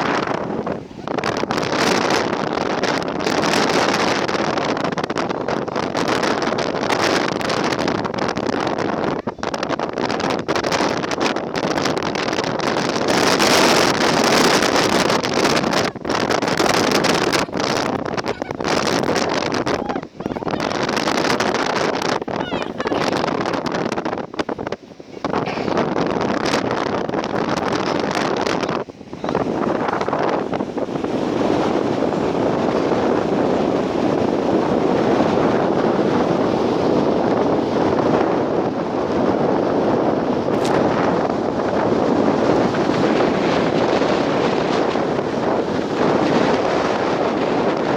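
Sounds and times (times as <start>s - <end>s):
gusty wind buffeting microphone: 0.0s - 47.9s.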